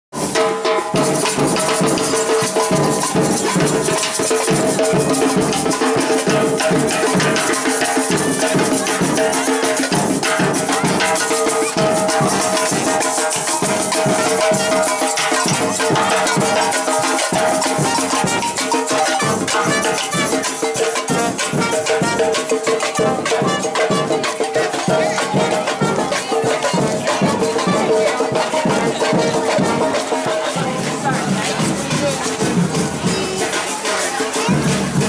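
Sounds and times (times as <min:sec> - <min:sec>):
drums and shakers rhythm: 0:00.1 - 0:35.0.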